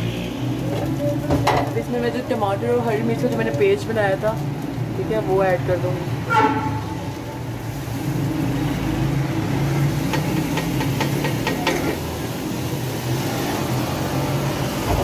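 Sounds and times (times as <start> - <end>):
paste frying in hot oil: 0.0 - 15.0.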